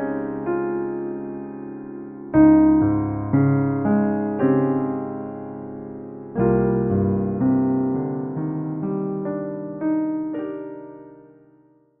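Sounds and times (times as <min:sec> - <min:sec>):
slow piano notes and chords: 0:00.0 - 0:12.0.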